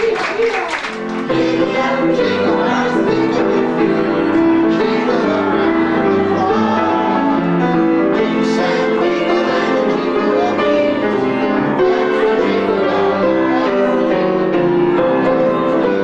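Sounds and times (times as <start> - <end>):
piano carol: 0.8 - 16.0
group of people singing: 1.1 - 16.0.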